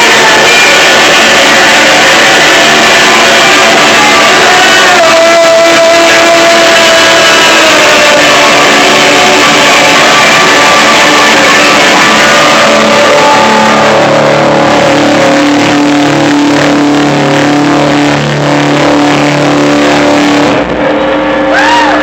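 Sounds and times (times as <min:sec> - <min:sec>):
live band with distorted guitar: 0:00.0 - 0:22.0
rising and falling tones: 0:00.0 - 0:22.0.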